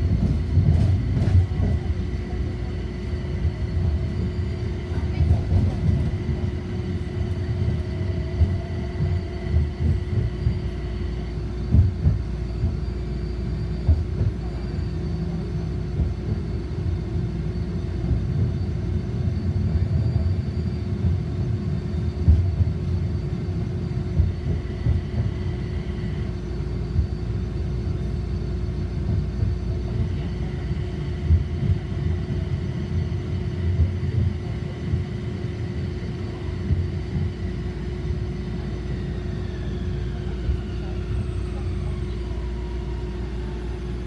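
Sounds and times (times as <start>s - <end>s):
constant hum: 0.0s - 44.0s
wheels rumbling on rail: 0.0s - 44.0s.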